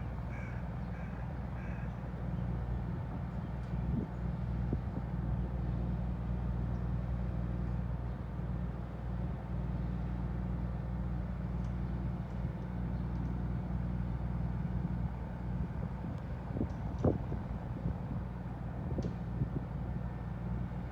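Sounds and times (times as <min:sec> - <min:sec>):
ferry engines droning: 0:00.0 - 0:20.9.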